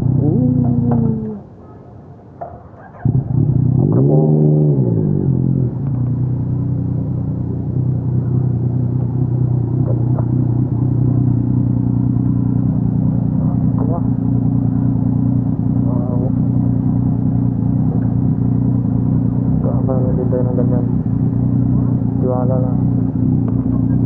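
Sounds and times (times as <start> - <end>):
motorcycle engine revving: 0.0 - 1.5, 2.6 - 24.0.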